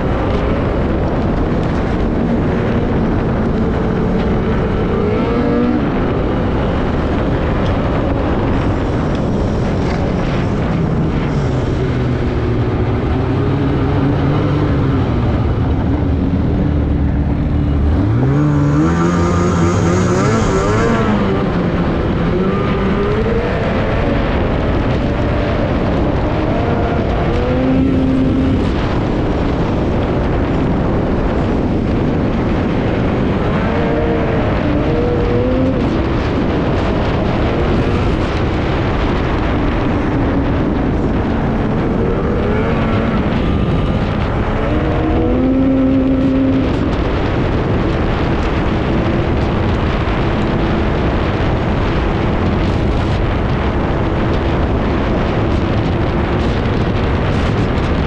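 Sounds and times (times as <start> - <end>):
snowmobile engine accelerating: 0.0 - 58.0.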